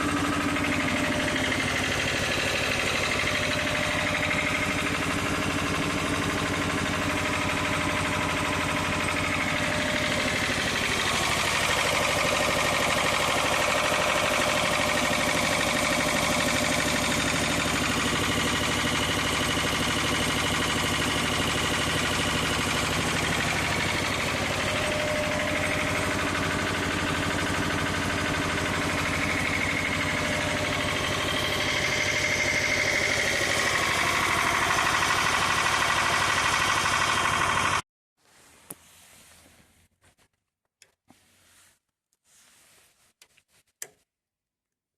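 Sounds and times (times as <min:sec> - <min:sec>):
diesel generator running: 0:00.0 - 0:37.8.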